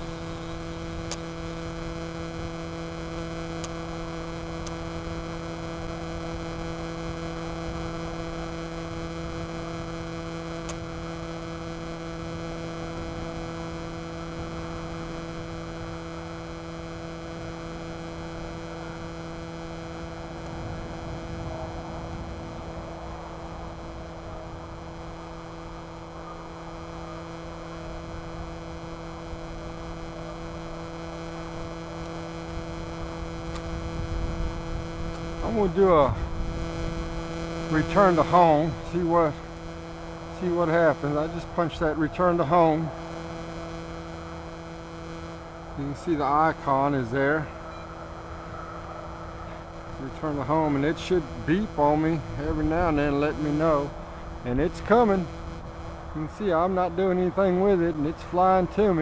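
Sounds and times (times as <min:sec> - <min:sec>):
steady hum of even tones: 0:00.0 - 0:59.0.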